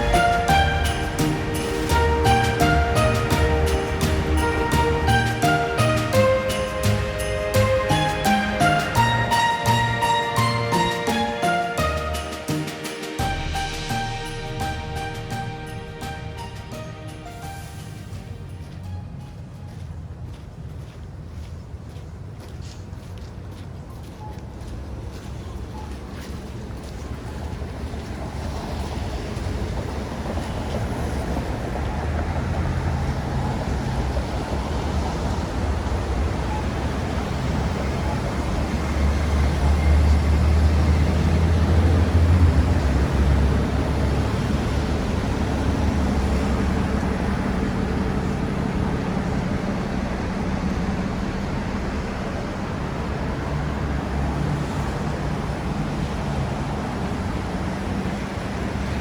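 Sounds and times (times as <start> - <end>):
heavy vehicle engine passing: 0.0 - 20.7, 27.2 - 59.0
road traffic rumbling: 0.0 - 59.0.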